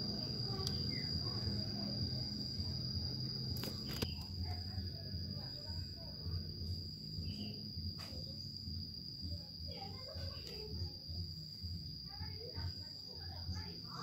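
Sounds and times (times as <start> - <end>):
insect trilling: 0.0 - 14.0.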